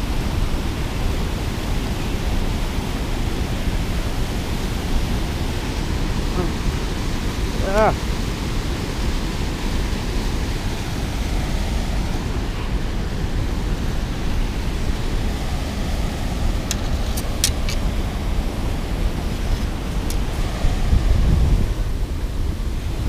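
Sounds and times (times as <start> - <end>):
water rushing over spillway: 0.0 - 23.0.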